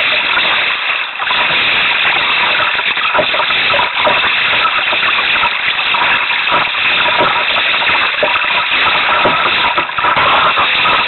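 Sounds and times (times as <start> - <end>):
sea water rushing around hull: 0.0 - 11.0
water splashes: 0.0 - 11.0.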